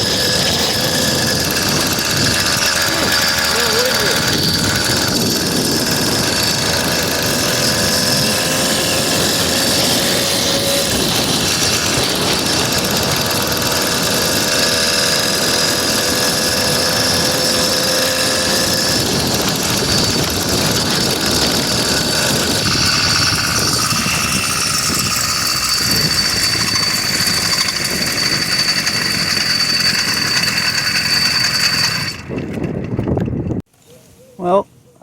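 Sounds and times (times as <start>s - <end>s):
two-stroke engine running: 0.0s - 33.6s.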